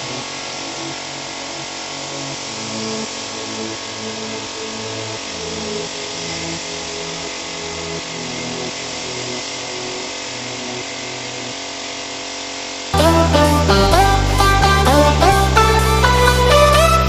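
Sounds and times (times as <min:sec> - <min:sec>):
spray gun air hissing: 0:00.0 - 0:13.7
low hum: 0:00.0 - 0:17.0.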